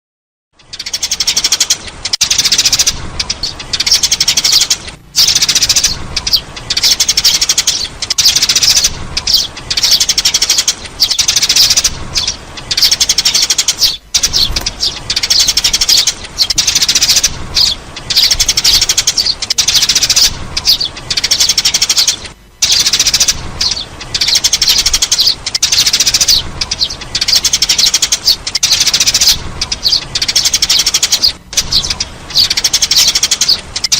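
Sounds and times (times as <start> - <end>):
sparrow chirping: 0.6 - 33.9.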